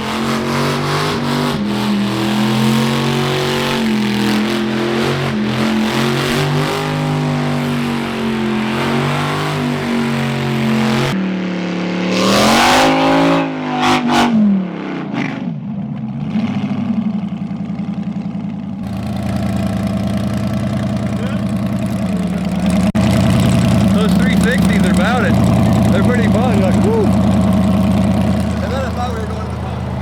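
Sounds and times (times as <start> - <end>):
car engine revving: 0.0 - 17.3, 18.8 - 30.0.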